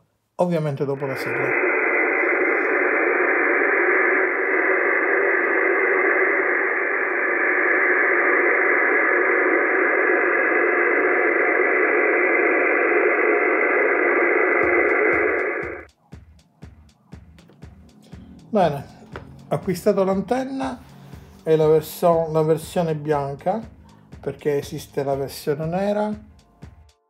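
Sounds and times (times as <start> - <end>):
radio static hiss: 0.6 - 15.9, 18.5 - 26.3.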